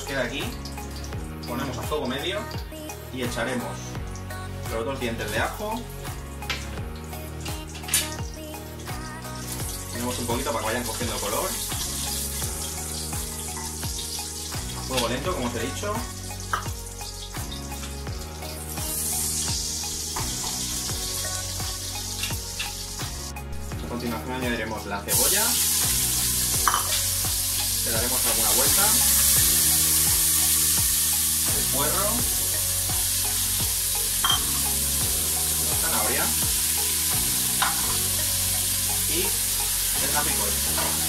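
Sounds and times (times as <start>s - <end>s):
background music with steady beat: 0.0s - 41.0s
garlic sizzling in oil: 0.0s - 41.0s.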